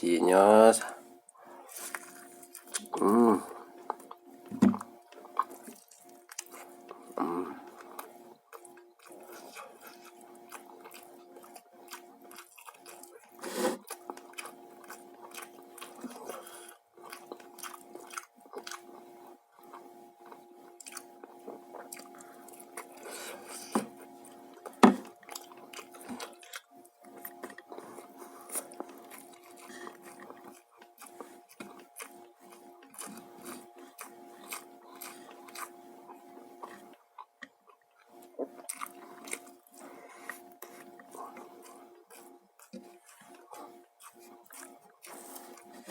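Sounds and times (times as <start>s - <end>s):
steady hum: 0.0s - 45.9s
chewing and crunching food: 0.2s - 45.9s.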